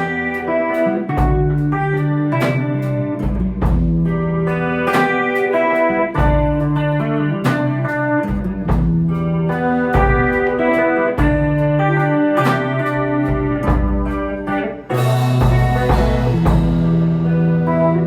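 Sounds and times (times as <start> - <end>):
instrumental band guitar-led: 0.0 - 18.0.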